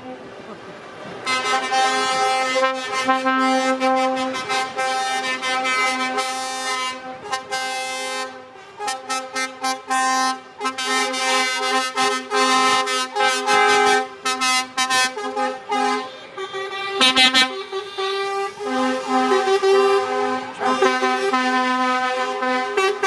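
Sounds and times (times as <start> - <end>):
truck air horns: 1.2 - 23.0.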